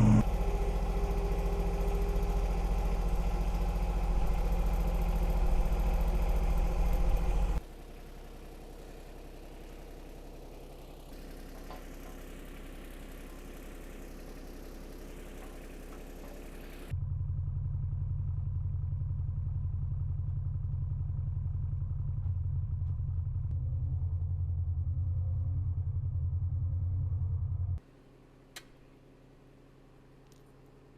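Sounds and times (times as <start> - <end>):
diesel tractor engine idling: 0.0 - 27.8.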